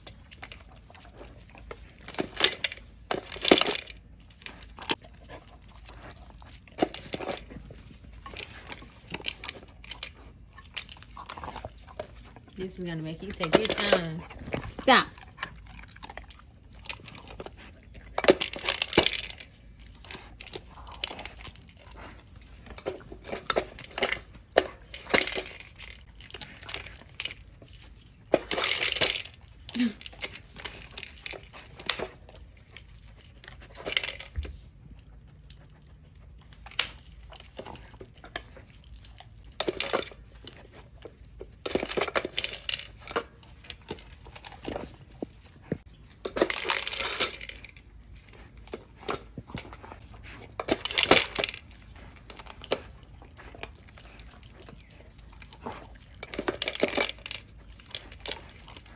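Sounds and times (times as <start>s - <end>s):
kibble rattling in bowl: 0.0s - 58.9s.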